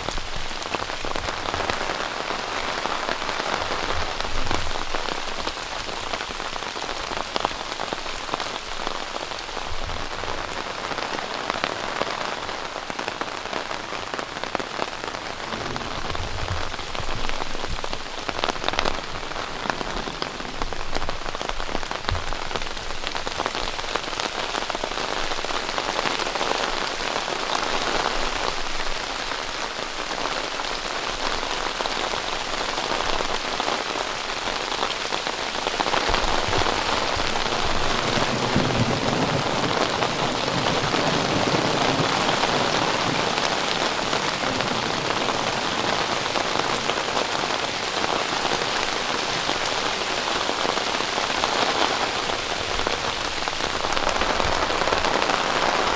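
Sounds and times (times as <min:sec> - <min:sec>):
heavy rain on a tent: 0:00.0 - 0:55.9.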